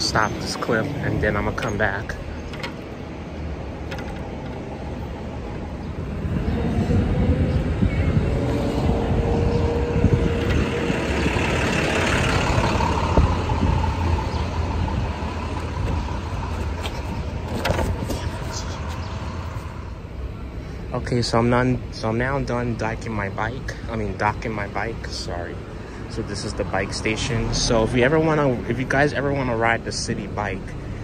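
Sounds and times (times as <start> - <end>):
city street traffic rumble: 0.0 - 31.0.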